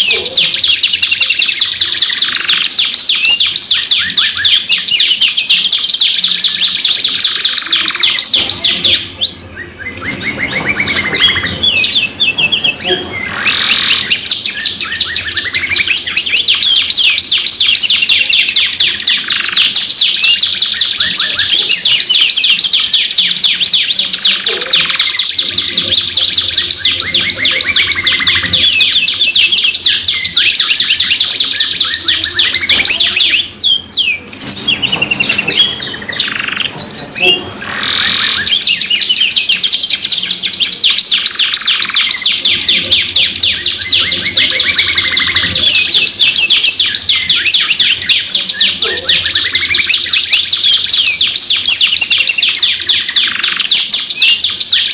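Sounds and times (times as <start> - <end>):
canaries singing trills: 0.0 - 54.9.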